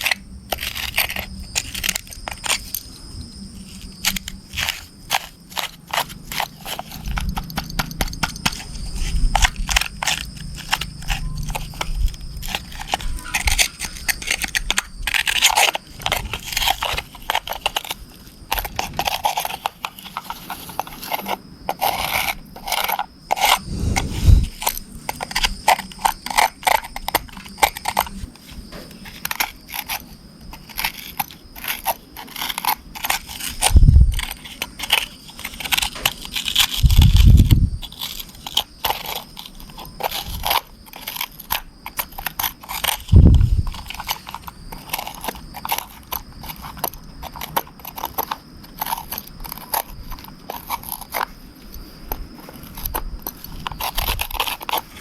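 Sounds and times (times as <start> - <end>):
dried mud scraping and crunching: 0.0 - 55.0.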